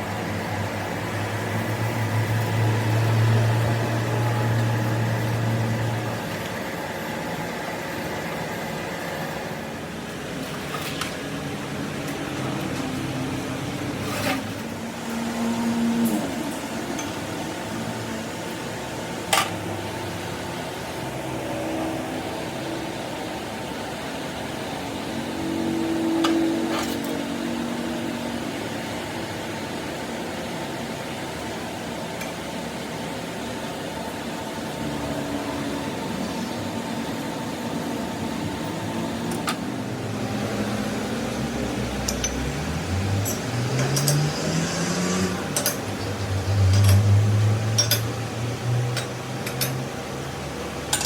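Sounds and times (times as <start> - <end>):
workshop machine hum: 0.0 - 51.0.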